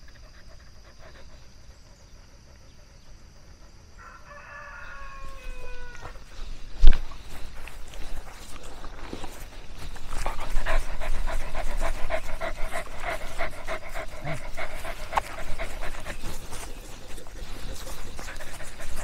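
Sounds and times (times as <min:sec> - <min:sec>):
dog panting: 0:00.0 - 0:04.0, 0:06.2 - 0:19.0.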